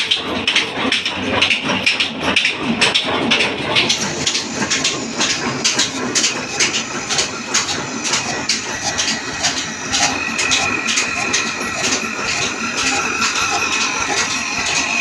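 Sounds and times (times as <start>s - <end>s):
diesel engine exhaust beating: 0.1s - 15.0s.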